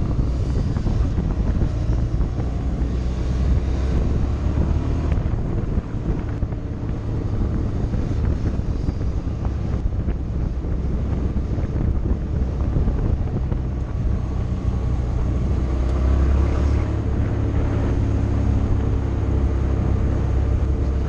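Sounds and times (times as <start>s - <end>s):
motorcycle engine running: 0.0s - 21.0s
wind rushing over microphone: 0.0s - 21.0s.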